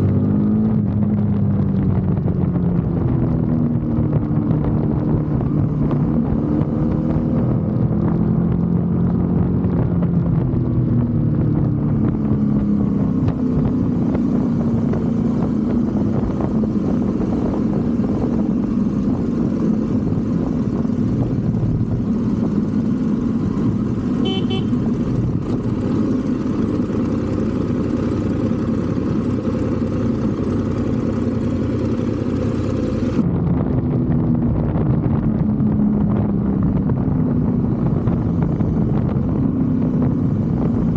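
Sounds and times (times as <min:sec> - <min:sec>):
motorcycle engine running: 0:00.0 - 0:40.9
wind noise: 0:00.0 - 0:40.9.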